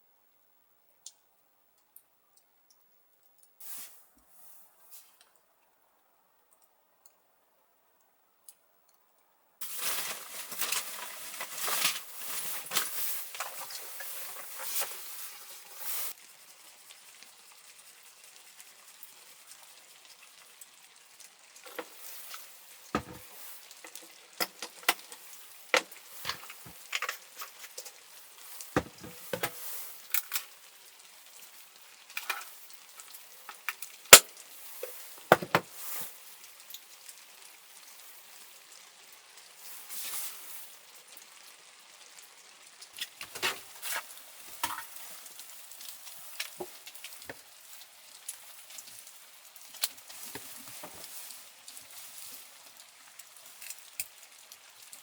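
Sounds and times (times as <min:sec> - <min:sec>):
crackles and pops: 0:00.2 - 0:04.0, 0:08.0 - 0:41.3, 0:42.0 - 0:55.0
food sizzling in a hot pan: 0:03.6 - 0:05.2, 0:09.6 - 0:55.0.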